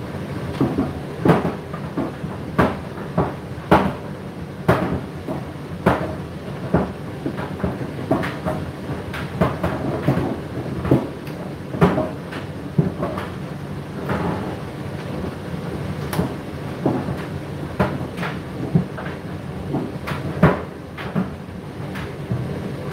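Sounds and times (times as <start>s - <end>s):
washing machine running hum: 0.0s - 22.9s.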